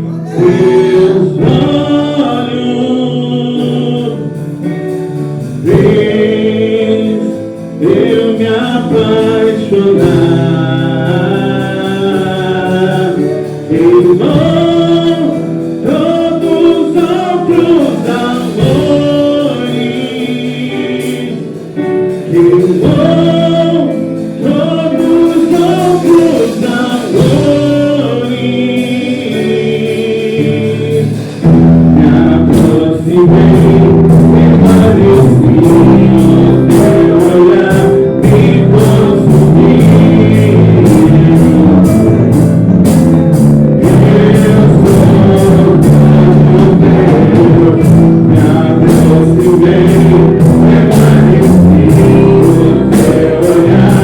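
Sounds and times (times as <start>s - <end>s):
male-led worship singing: 0.0s - 42.5s, 43.8s - 54.0s
drums: 0.0s - 54.0s
guitar: 0.0s - 54.0s
keyboard accompaniment: 0.0s - 54.0s.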